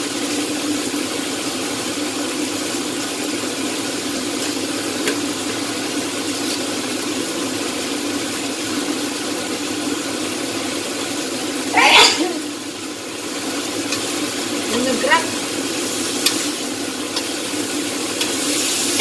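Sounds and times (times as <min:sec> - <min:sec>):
stir-fry sizzling in a wok: 0:00.0 - 0:19.0.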